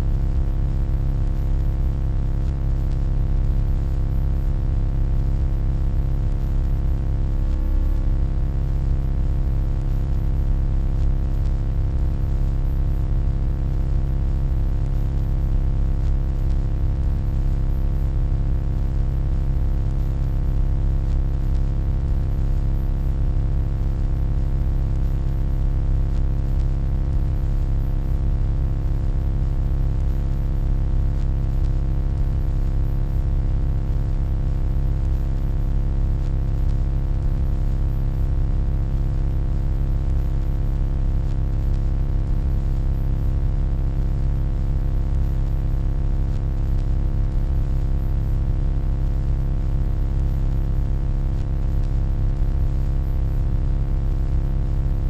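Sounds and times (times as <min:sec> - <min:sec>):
low electronic hum: 0:00.0 - 0:45.6, 0:46.2 - 0:47.0, 0:50.1 - 0:50.6, 0:51.3 - 0:55.0.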